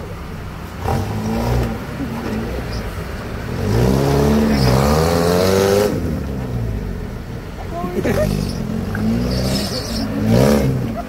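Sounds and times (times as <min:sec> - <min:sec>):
car engine revving under load: 0:00.0 - 0:11.0.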